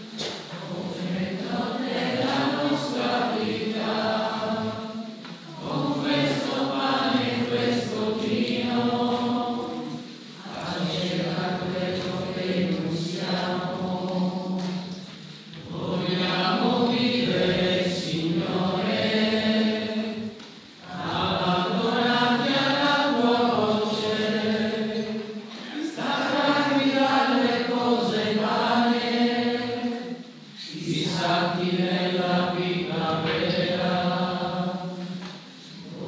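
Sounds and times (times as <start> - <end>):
congregation singing a hymn: 0.0 - 36.0.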